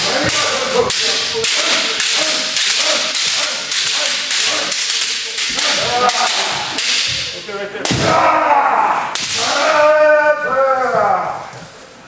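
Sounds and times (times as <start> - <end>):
people shouting cries: 0.0 - 6.8, 7.9 - 11.5
bamboo swords striking: 0.0 - 10.0.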